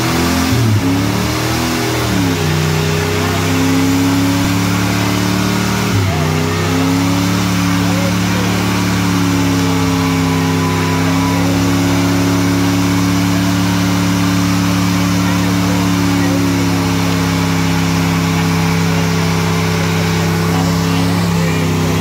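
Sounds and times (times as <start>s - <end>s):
engine revving high: 0.0s - 22.0s
tyres spinning: 0.0s - 22.0s.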